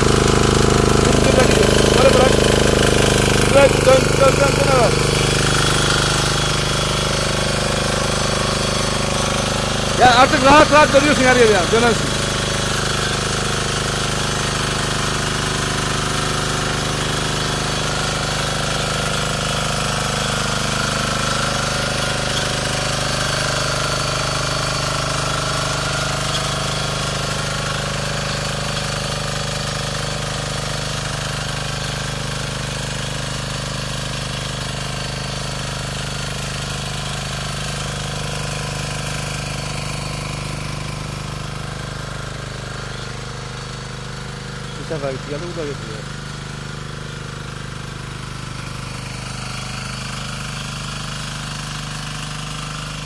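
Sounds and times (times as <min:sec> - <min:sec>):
diesel tiller running: 0:00.0 - 0:53.0.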